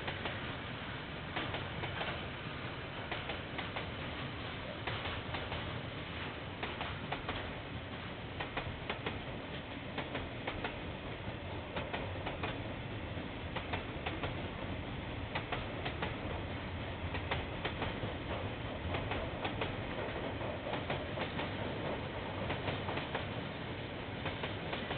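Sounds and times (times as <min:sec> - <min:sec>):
train rumble and hiss: 0:00.0 - 0:24.9
train wheels clicking: 0:00.0 - 0:24.9.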